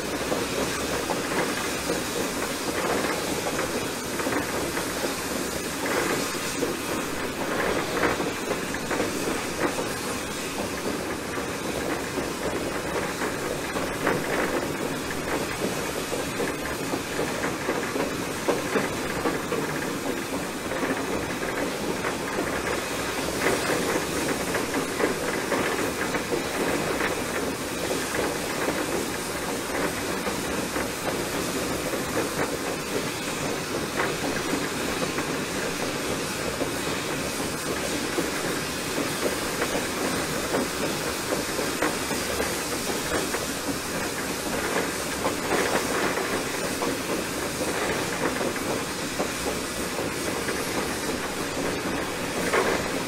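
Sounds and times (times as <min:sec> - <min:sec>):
steam hissing: 0:00.0 - 0:53.0
wheels clattering on rails: 0:00.0 - 0:53.0.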